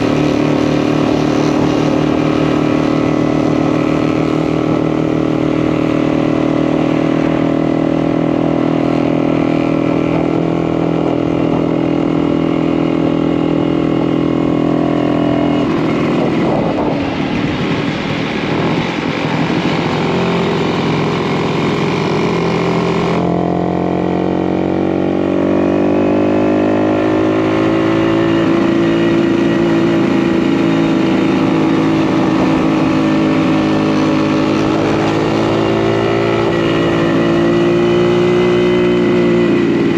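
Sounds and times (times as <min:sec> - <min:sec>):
two-stroke motorcycle engine: 0:00.0 - 0:39.9.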